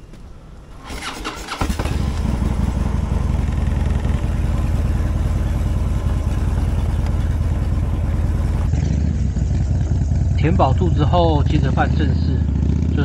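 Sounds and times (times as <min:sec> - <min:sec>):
motorcycle engine idling: 0:01.1 - 0:13.0.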